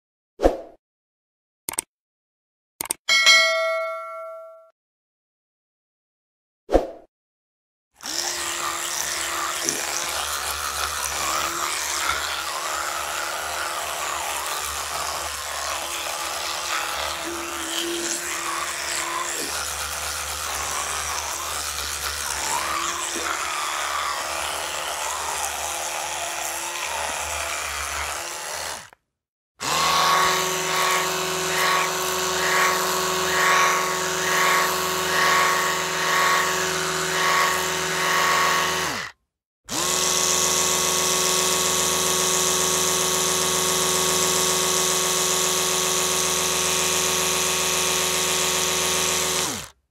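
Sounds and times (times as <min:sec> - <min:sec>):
electric toothbrush buzzing: 0:08.0 - 0:29.0, 0:29.6 - 0:49.8.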